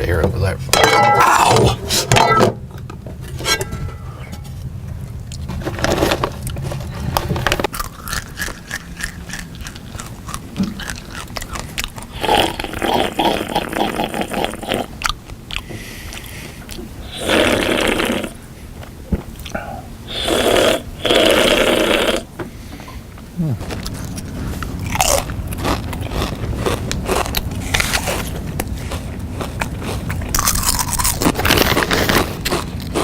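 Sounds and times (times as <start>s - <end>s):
crunching and chewing food: 4.4s - 19.7s, 20.5s - 33.0s.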